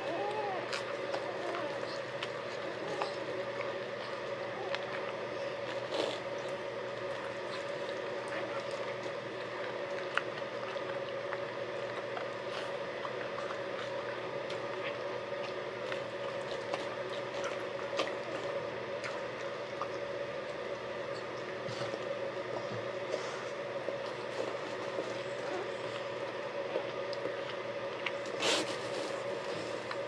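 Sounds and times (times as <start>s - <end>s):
dog licking puppies: 0.0s - 30.0s
steady hum: 0.0s - 30.0s.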